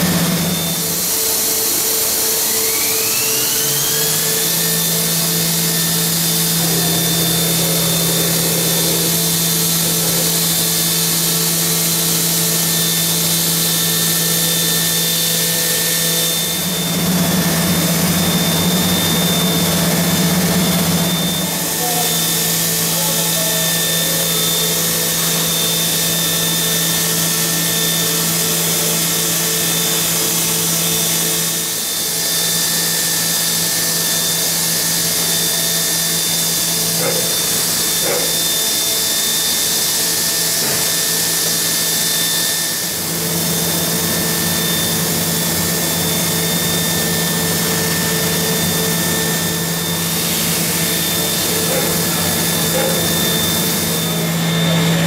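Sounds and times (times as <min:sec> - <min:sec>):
milling machine spindle whine: 0:00.0 - 0:55.0.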